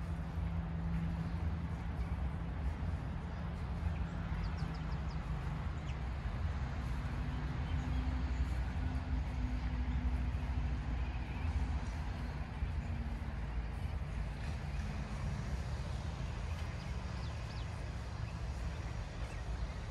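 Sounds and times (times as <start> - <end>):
low engine hum: 0.0 - 19.9.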